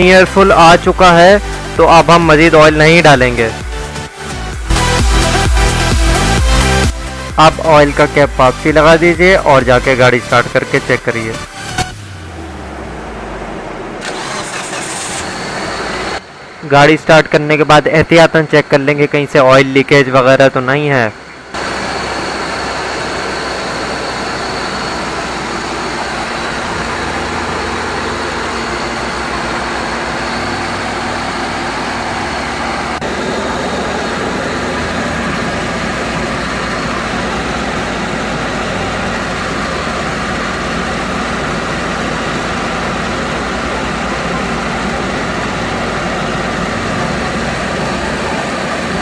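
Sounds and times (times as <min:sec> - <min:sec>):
car engine idling: 0:00.0 - 0:16.8, 0:20.7 - 0:49.0.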